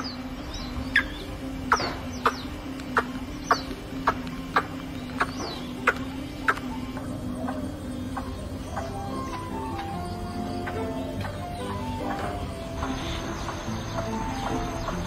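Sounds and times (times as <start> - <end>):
waterhen calling sharp notes: 0.0 - 15.0.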